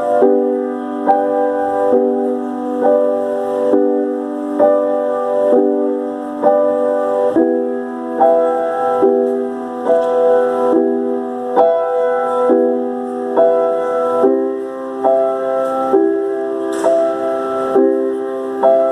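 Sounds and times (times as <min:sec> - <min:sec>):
piano chords: 0:00.0 - 0:18.9.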